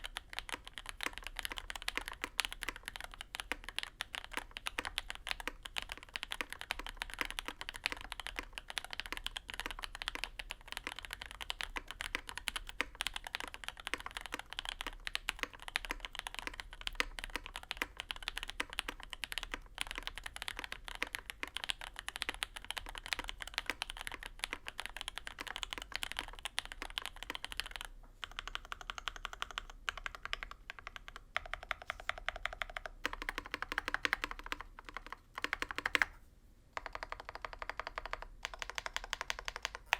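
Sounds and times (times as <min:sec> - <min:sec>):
fast typing on mechanical keyboard: 0:00.0 - 0:36.2, 0:36.8 - 0:39.9.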